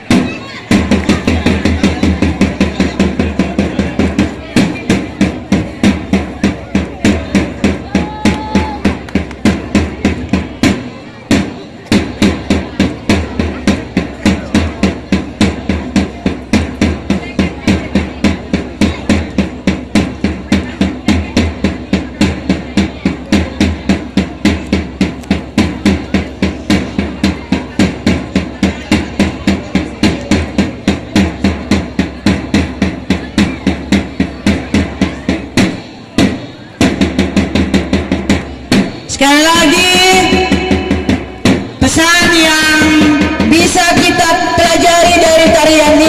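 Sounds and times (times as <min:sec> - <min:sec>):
fast dance percussion beat: 0:00.0 - 0:46.0.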